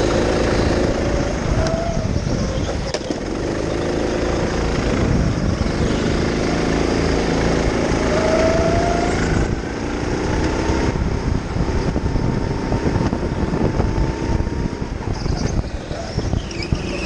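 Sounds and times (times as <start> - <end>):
go-kart engine: 0.0 - 17.0.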